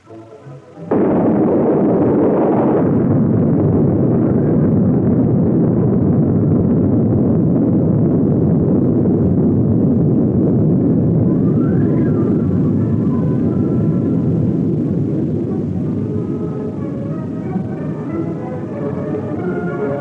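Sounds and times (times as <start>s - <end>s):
explosion roar: 0.7s - 20.0s.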